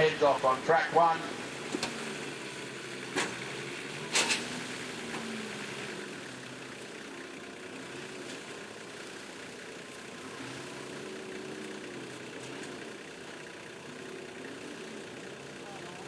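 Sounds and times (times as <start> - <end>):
vehicle engine running at low revs: 0.0 - 16.0.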